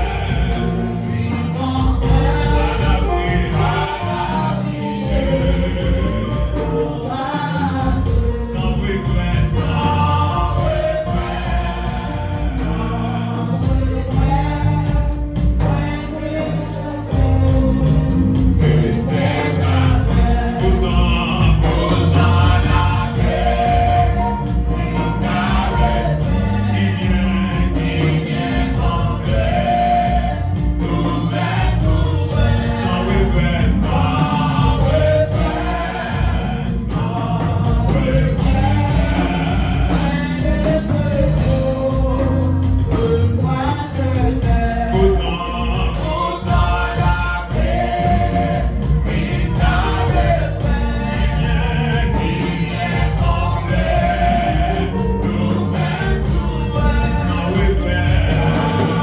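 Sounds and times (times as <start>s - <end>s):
backing singers: 0.0s - 59.0s
drum kit beat: 0.0s - 59.0s
electric keyboard: 0.0s - 59.0s
man singing lead: 0.0s - 59.0s.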